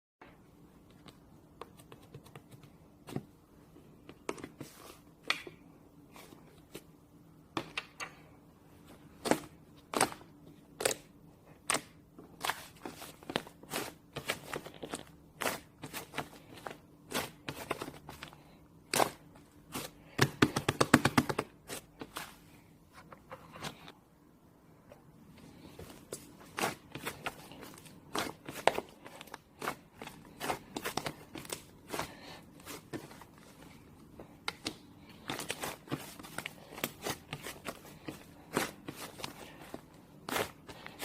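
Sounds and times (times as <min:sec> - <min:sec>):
faint steady hum: 0:00.2 - 0:41.0.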